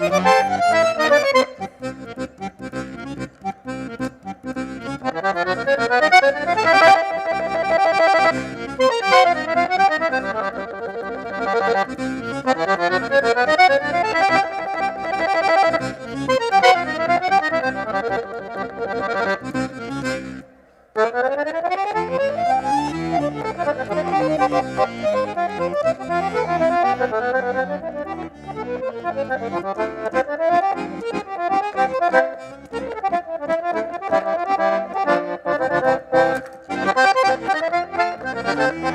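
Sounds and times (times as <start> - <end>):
accordion playing: 0.0 - 38.9.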